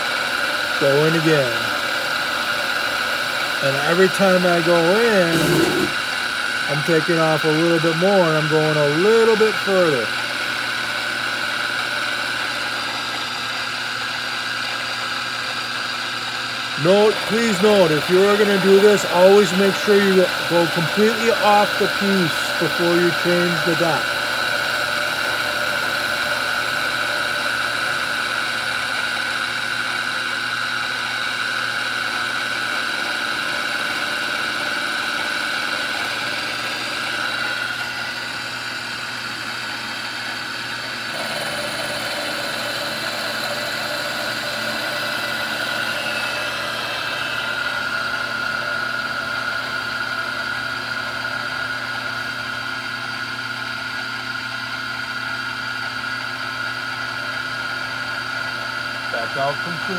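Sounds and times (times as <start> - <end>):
milling machine cutting metal: 0.0 - 59.9.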